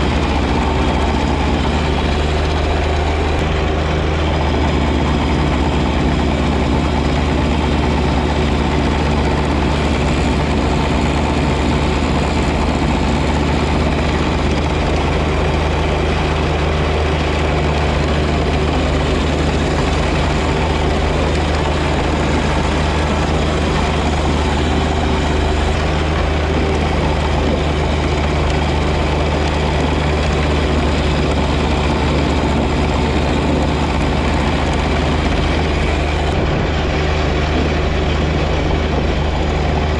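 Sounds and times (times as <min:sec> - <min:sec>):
snow blower rushing: 0:00.0 - 0:39.9
tractor diesel engine hum: 0:00.0 - 0:39.9.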